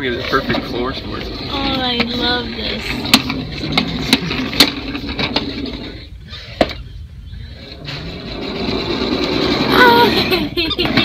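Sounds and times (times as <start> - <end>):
plastic wheels rolling on hard floor: 0.0 - 6.7, 7.7 - 11.0.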